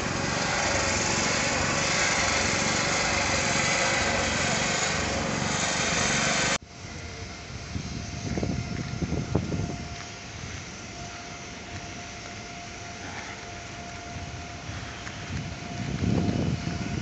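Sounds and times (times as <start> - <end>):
engine running loudly: 0.0 - 17.0
outdoor noise: 0.0 - 17.0.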